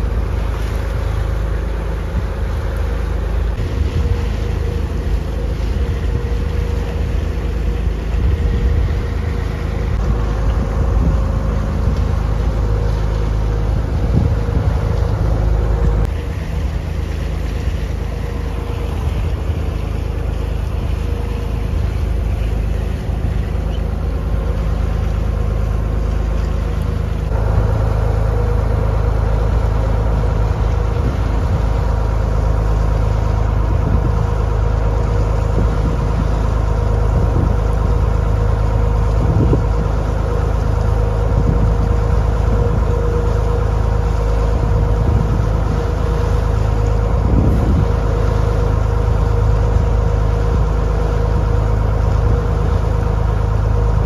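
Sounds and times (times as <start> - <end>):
boat engine hum: 0.0 - 54.0.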